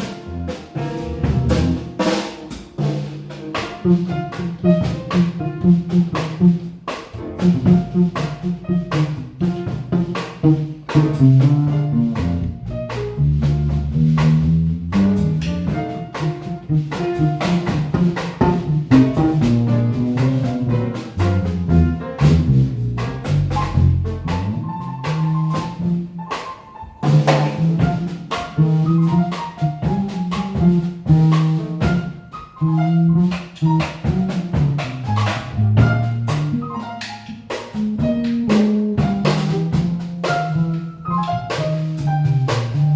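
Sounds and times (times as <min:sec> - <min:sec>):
bass line: 0:00.0 - 0:42.9
drum kit: 0:00.0 - 0:42.9
piano notes and chords: 0:00.0 - 0:42.9.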